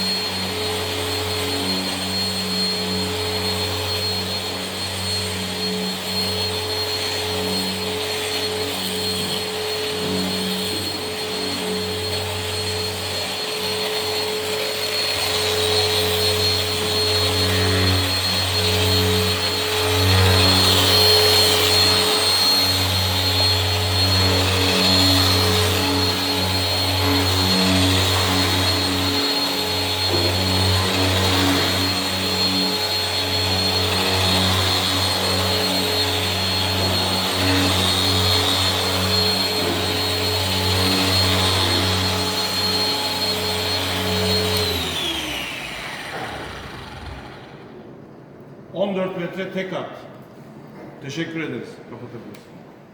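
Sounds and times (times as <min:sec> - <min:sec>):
orbital sander motor whine: 0:00.0 - 0:48.0.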